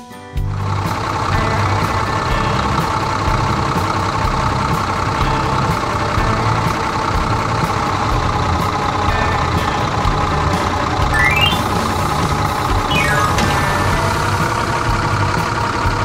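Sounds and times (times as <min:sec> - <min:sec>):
tractor engine running: 0:00.4 - 0:16.0.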